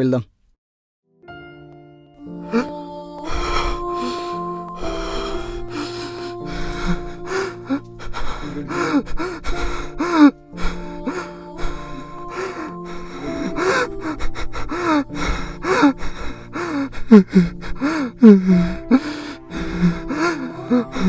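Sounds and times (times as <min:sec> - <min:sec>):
man sobbing and gasping: 0:02.6 - 0:21.0.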